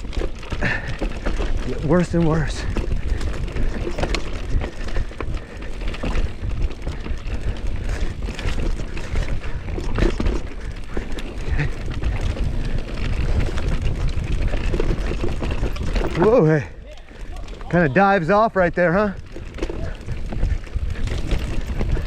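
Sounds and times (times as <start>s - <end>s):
bike clattering: 0.0s - 22.0s
bike tyres rumbling over rocks: 0.0s - 22.0s
wind buffeting microphone: 0.0s - 22.0s.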